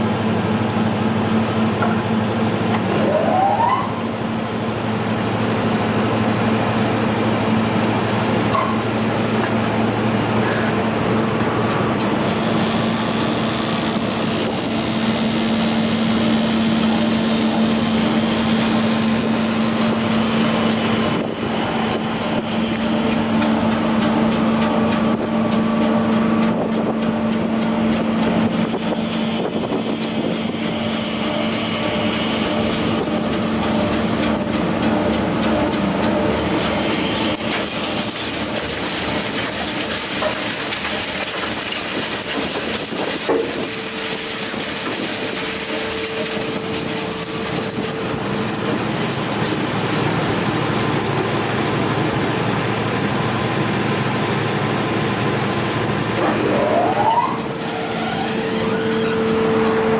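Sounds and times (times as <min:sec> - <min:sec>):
wood chipper engine hum: 0:00.0 - 0:59.9.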